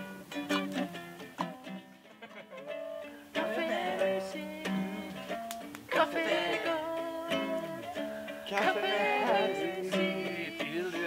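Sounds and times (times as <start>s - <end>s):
plucked acoustic string melody: 0.0s - 11.0s.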